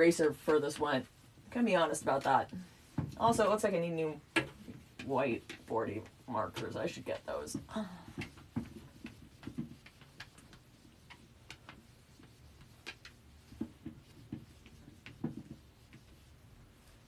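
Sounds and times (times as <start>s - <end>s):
whiteboard being wiped: 0.0s - 17.0s.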